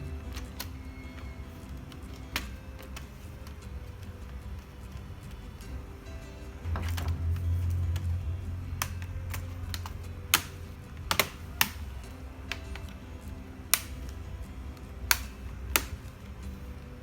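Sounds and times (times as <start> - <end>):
quiet background music: 0.0 - 17.0
small hard parts clicking: 0.0 - 17.0.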